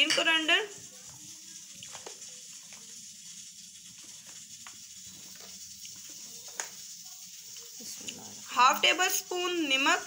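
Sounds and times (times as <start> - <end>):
steady hiss: 0.3 - 10.0.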